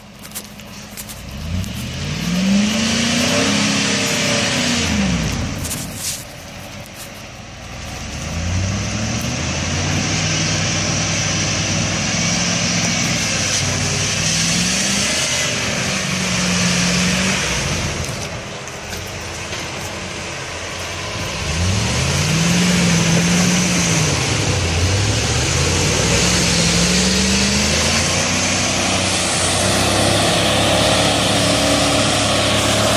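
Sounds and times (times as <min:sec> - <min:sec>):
vehicle engine revving: 0:01.0 - 0:06.4, 0:07.6 - 0:32.9.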